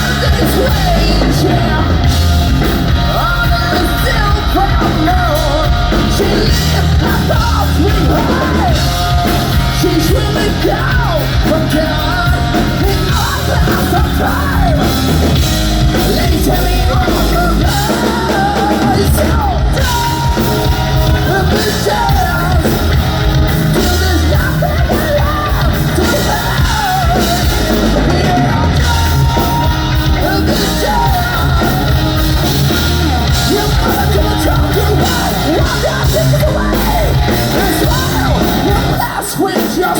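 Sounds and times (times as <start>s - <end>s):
hard rock band playing live: 0.0s - 39.9s
person singing: 0.0s - 39.9s.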